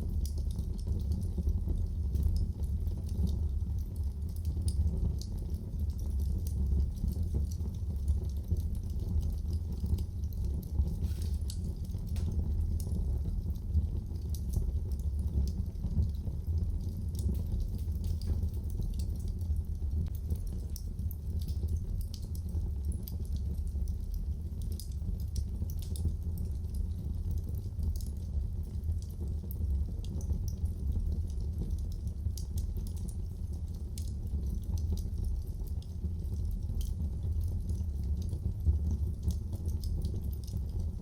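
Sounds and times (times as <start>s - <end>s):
fire crackles and pops: 0.0s - 41.0s
wood fire burning: 0.0s - 41.0s.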